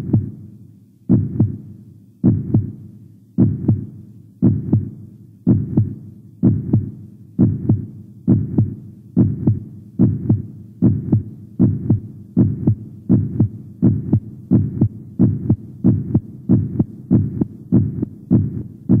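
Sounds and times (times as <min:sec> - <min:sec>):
heartbeat double thump: 0:01.1 - 0:01.6, 0:02.2 - 0:02.7, 0:03.4 - 0:04.9, 0:05.5 - 0:19.0.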